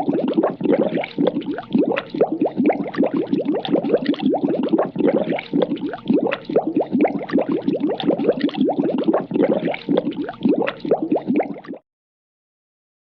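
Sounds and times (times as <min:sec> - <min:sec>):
cartoon bubbling blips: 0:00.0 - 0:11.8.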